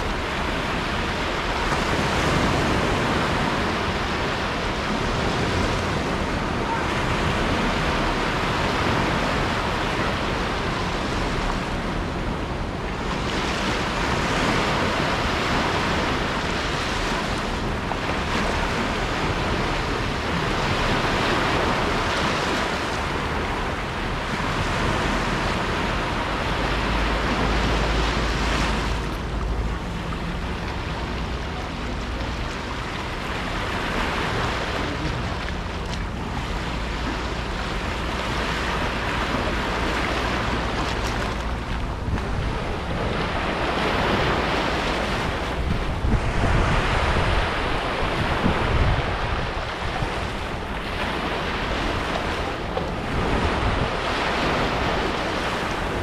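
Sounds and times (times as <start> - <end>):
sea waves washing on shore: 0.0 - 56.0
wind rumble on microphone: 0.0 - 56.0.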